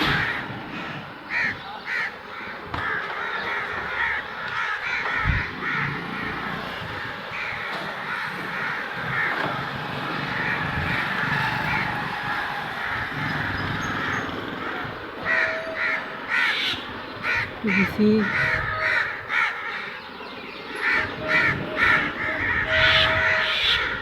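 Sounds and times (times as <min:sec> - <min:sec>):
crows cawing: 0:00.0 - 0:24.0.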